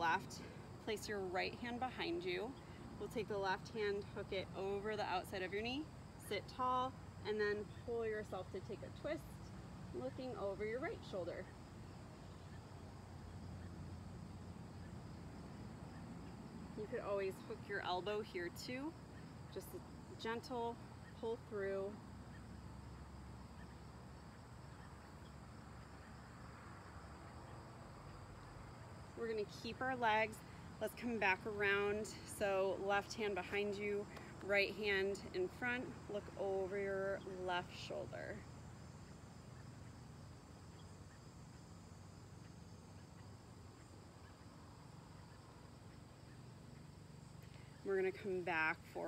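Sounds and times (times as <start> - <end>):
crickets droning: 0.0 - 49.0
low hiss and hum: 0.0 - 49.0
high insect buzz: 4.0 - 36.6, 37.2 - 48.9.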